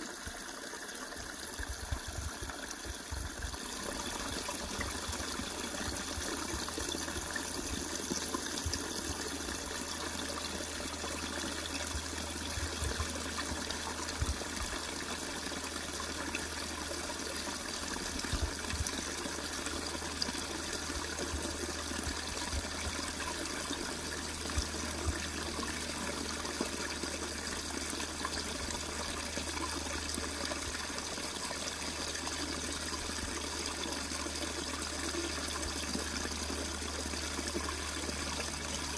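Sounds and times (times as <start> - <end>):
water trickling into a pool: 0.0 - 38.9.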